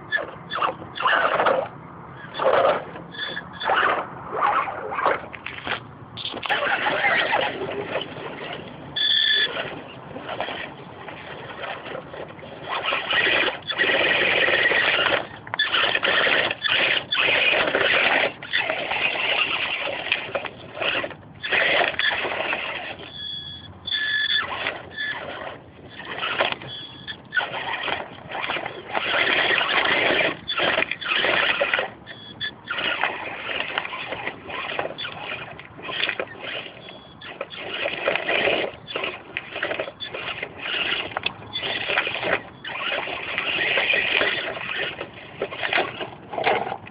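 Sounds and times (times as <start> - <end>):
electric motor and drivetrain whine: 0.0 - 46.9.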